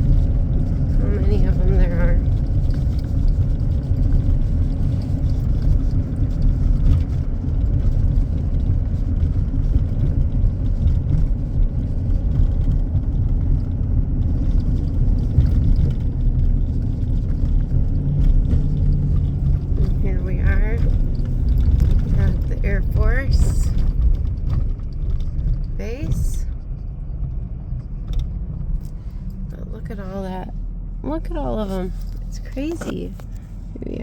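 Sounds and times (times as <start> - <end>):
road and engine rumble: 0.0 - 34.0.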